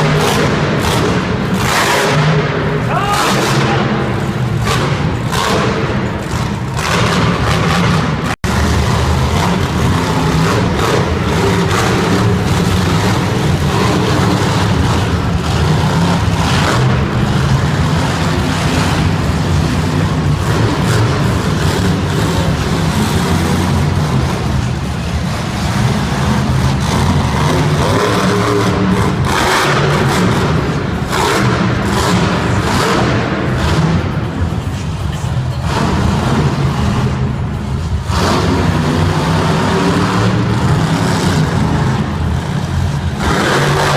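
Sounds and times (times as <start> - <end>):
monster truck engines running: 0.0 - 43.9.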